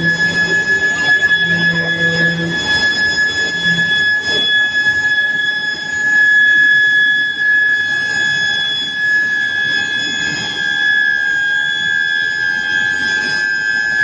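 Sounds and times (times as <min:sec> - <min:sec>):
high-pitched furnace whine: 0:00.0 - 0:14.0.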